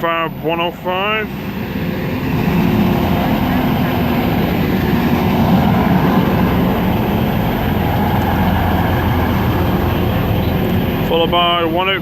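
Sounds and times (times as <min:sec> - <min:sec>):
train engine noise: 0:00.0 - 0:12.0
wheels on rails: 0:00.7 - 0:12.0.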